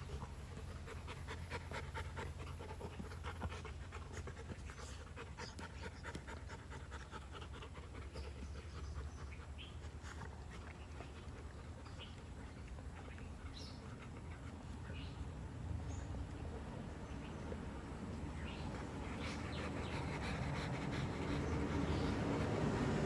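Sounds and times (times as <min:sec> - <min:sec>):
dogs panting: 0:00.0 - 0:23.0.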